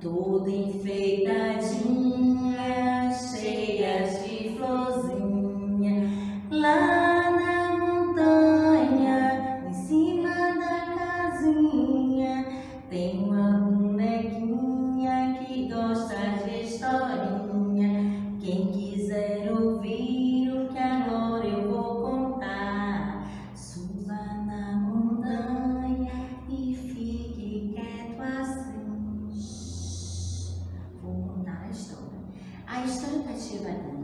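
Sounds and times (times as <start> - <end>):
women singing children's song: 0.0 - 34.0.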